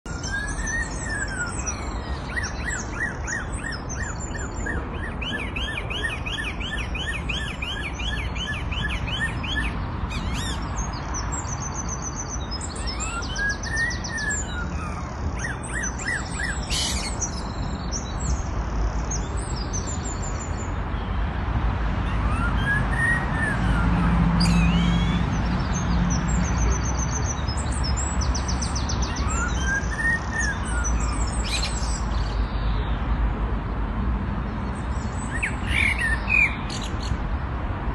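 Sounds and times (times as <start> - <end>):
songbird chirps and trills: 0.1 - 21.2, 22.0 - 33.2, 34.4 - 37.9.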